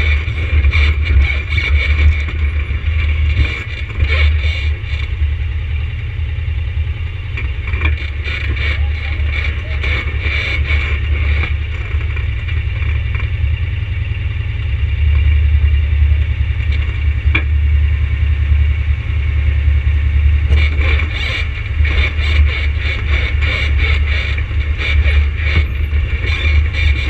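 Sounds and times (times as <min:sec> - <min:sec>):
atv engine rumbling: 0:00.0 - 0:27.0.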